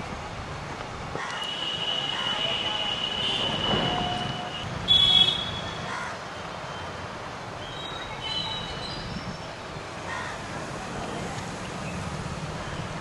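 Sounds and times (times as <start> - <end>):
railway yard background noise: 0.0 - 13.0.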